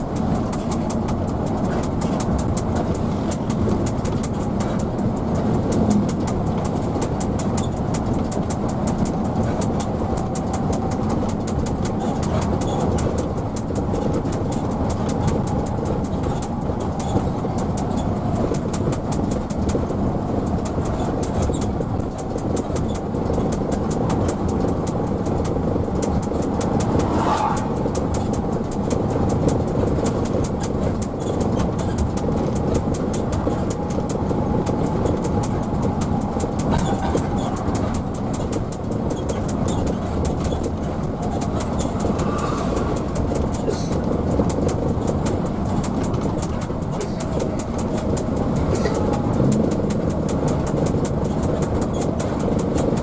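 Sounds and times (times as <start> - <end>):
bus engine drone: 0.0 - 53.0
fast continuous rattle: 0.0 - 53.0
road noise: 0.0 - 53.0.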